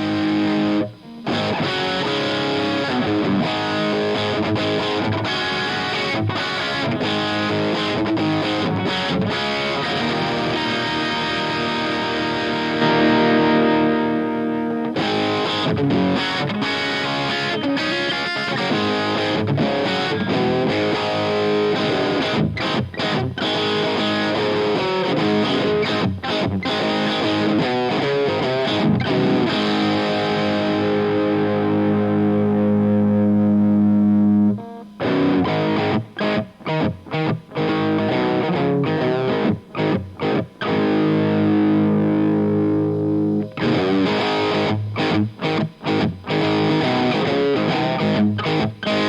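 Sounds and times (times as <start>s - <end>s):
distorted electric guitar: 0.0s - 49.0s.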